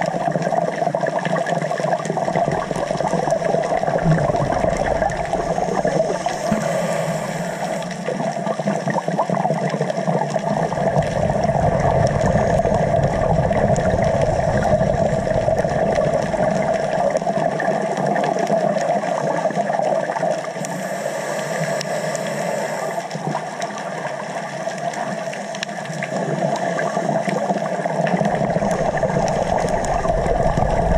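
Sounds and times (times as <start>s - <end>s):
muffled underwater water rush: 0.0s - 30.9s.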